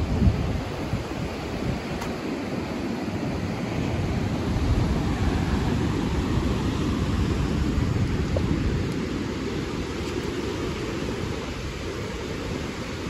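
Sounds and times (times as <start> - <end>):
surf breaking on beach: 0.0 - 13.0
wind rumbling on microphone: 0.0 - 13.0.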